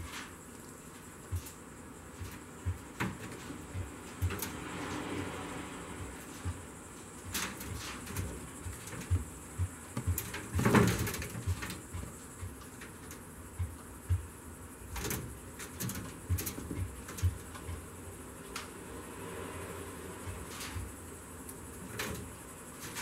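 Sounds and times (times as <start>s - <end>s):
squirrels scrambling in wire cage: 0.0s - 14.2s, 14.8s - 17.9s, 20.1s - 23.0s.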